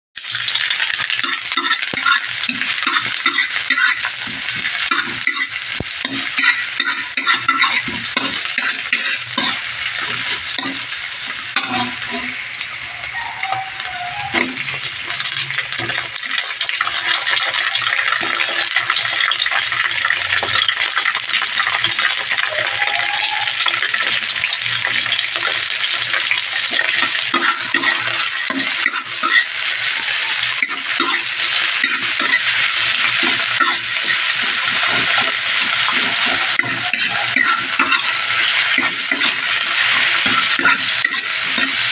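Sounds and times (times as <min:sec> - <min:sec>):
onions sizzling in hot oil: 0:00.2 - 0:41.9
metal spatula scraping a pan: 0:00.3 - 0:22.4, 0:23.1 - 0:41.9.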